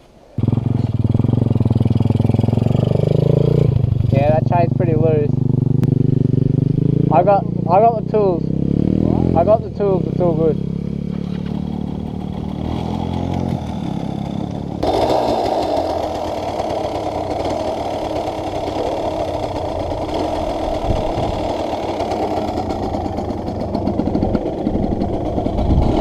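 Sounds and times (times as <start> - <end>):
dirt bike engine: 0.3 - 26.0.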